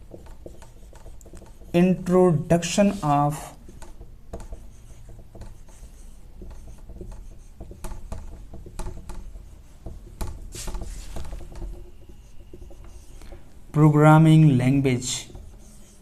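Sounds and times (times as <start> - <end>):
marker writing on whiteboard: 0.0 - 16.0.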